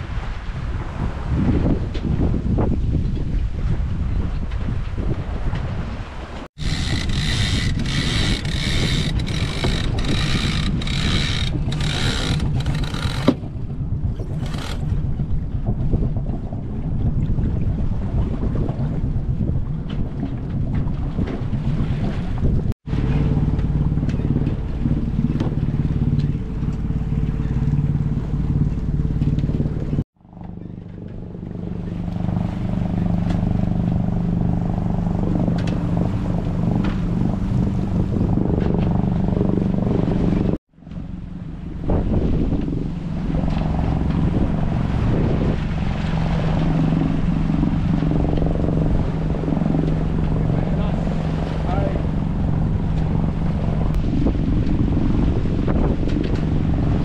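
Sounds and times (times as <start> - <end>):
wind noise: 0.0 - 30.0, 30.6 - 57.0
boat engine running: 6.6 - 57.0.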